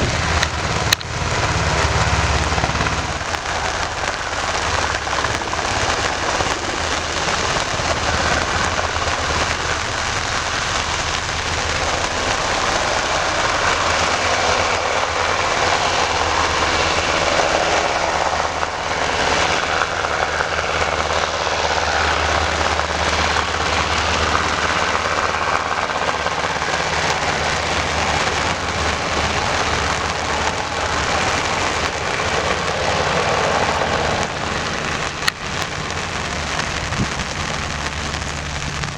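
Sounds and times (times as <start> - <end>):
low engine hum: 0.0 - 38.9
steady rain: 0.0 - 38.9.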